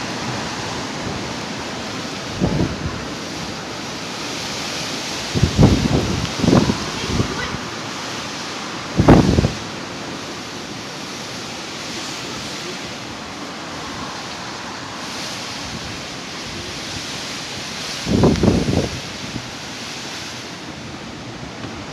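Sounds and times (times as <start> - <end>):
low wind buffet: 0.0 - 21.9
strong gusty wind: 0.0 - 21.9.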